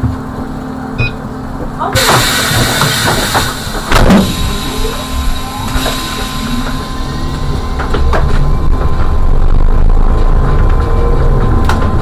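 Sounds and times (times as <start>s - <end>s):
electrical hum: 0.0s - 12.0s
trolleybus motor whine: 0.0s - 12.0s.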